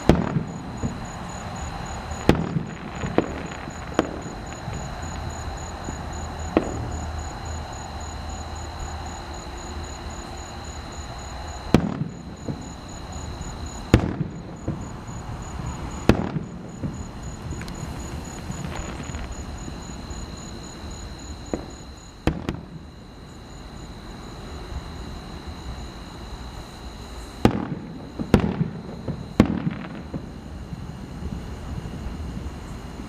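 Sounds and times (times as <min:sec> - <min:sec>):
fireworks booming: 0:00.0 - 0:23.2, 0:27.4 - 0:33.0.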